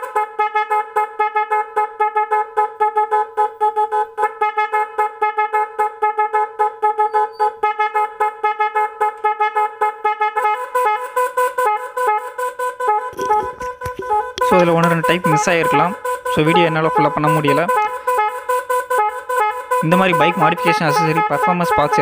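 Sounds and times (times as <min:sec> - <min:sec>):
pulsing electronic horn tones: 0:00.0 - 0:22.0.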